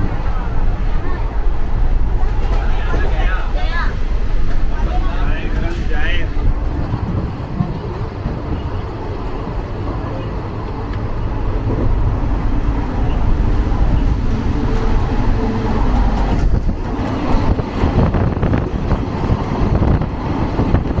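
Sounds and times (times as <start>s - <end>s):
train coach rumbling: 0.0s - 21.0s.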